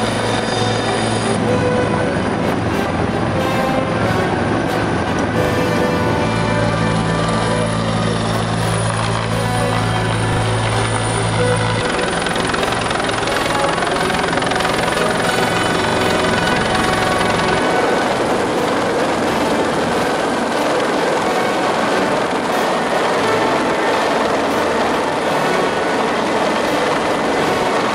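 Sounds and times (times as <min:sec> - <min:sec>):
helicopter rotor and engine: 0:00.0 - 0:27.9.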